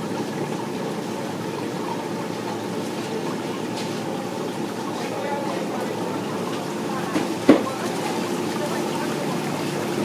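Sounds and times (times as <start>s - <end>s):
water running and bubbling: 0.0s - 10.0s.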